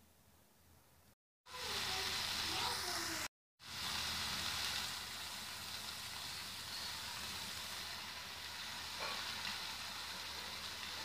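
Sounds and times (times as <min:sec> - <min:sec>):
chicken sizzling in a pot: 0:01.5 - 0:11.0.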